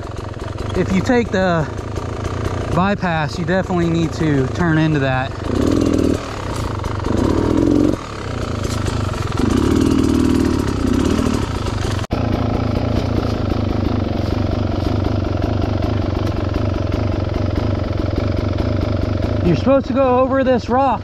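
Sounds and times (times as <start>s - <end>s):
engine throttle bursts: 0.0s - 20.1s
dirt bike engine running: 0.0s - 21.0s.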